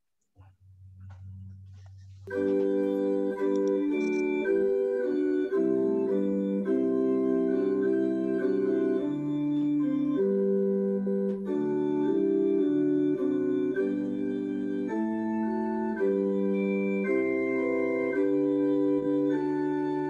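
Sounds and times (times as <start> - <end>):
organ playing sustained chords: 1.1 - 20.0.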